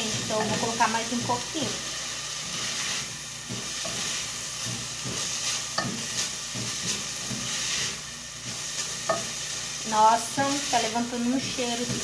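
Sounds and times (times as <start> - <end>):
utensil scraping a pan: 0.0 - 9.6
meat sizzling in a pan: 0.0 - 12.0.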